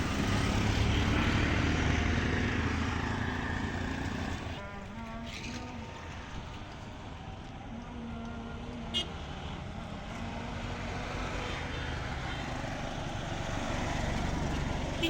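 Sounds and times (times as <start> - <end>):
vehicle engine and tyre rumble: 0.0 - 15.0.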